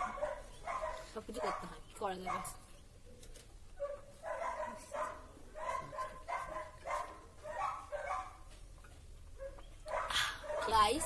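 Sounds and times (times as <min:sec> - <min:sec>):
dog barking: 0:00.0 - 0:02.6, 0:03.8 - 0:08.6, 0:09.4 - 0:11.0.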